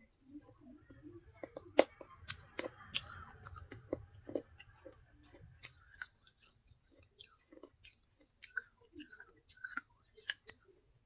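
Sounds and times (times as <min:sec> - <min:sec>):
crunchy chewing: 0:00.6 - 0:10.8.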